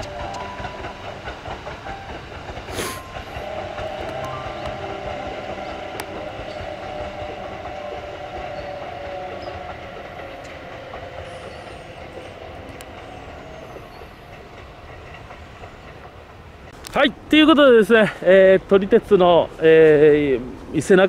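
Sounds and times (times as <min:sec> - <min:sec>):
distant train rumble: 0:00.0 - 0:21.0.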